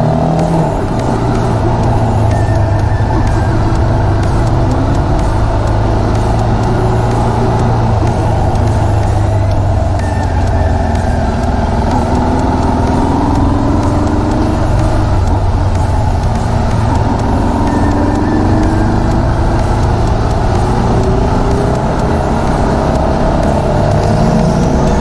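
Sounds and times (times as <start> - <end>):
motorcycle engine accelerating: 0.0 - 25.0
steady low rumble: 0.0 - 25.0.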